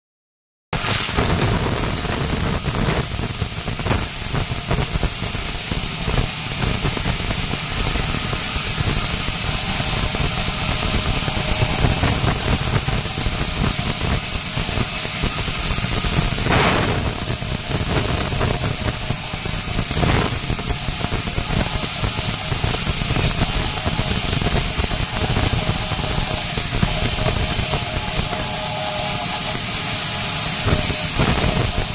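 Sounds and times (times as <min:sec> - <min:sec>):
saw mill machinery running: 0:00.8 - 0:31.9
thin high whine: 0:00.8 - 0:31.9.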